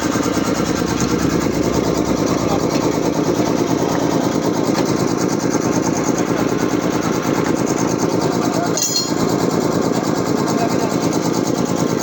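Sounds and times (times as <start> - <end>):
air compressor pumping clatter: 0.0 - 12.0.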